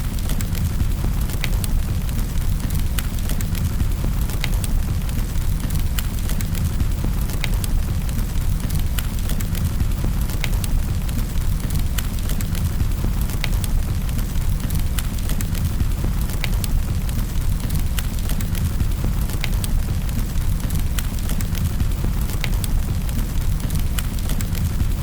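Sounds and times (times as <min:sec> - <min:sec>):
fire crackling: 0:00.0 - 0:25.0
low rumble of flames: 0:00.0 - 0:25.0.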